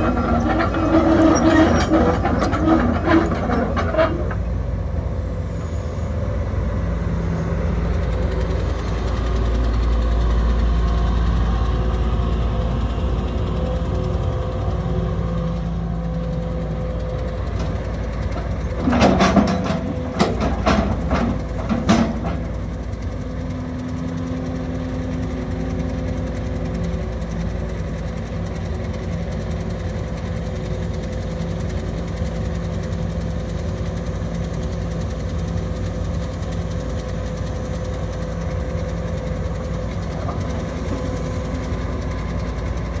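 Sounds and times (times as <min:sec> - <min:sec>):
excavator diesel engine running: 0:00.0 - 0:43.0
hydraulics humming: 0:00.0 - 0:43.0.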